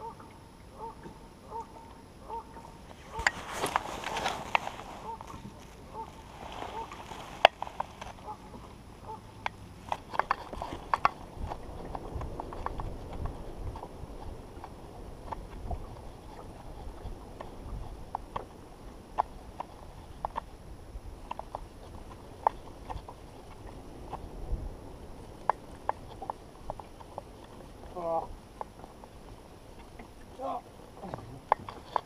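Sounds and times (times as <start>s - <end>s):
low wind rumble: 0.0s - 31.6s
small waves slapping boat hull: 0.0s - 32.0s.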